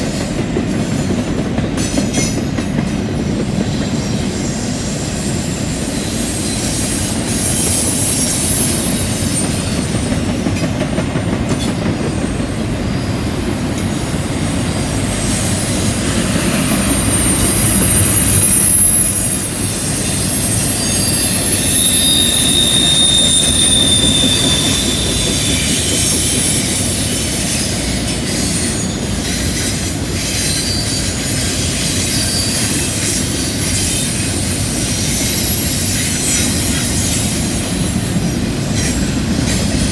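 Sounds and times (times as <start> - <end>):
train wheels clattering on rail: 0.0 - 39.9
high wheel squeal: 4.4 - 10.4, 11.6 - 39.9.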